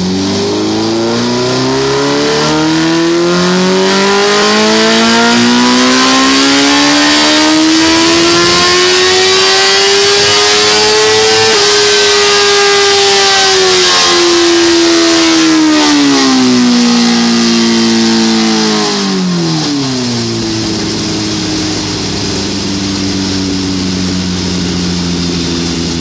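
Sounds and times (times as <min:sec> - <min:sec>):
motorcycle engine revving on dyno: 0:00.0 - 0:26.0.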